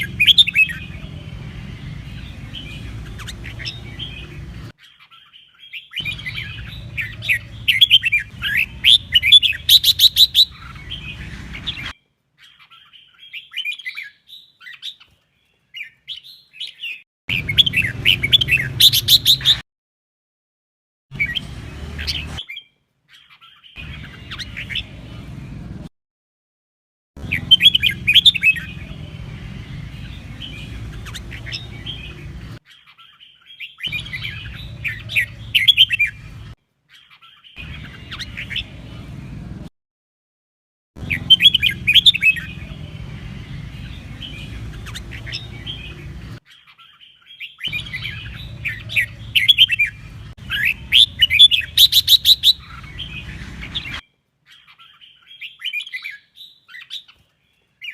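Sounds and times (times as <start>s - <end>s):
bird chattering whistled song: 0.0s - 15.0s, 15.8s - 19.6s, 21.2s - 25.0s, 27.2s - 29.1s, 29.9s - 36.2s, 36.9s - 38.8s, 41.0s - 57.2s.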